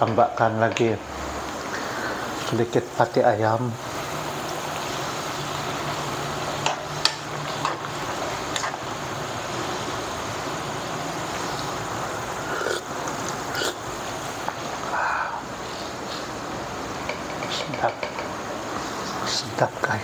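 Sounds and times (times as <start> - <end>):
broth boiling in a wok: 0.0 - 20.0.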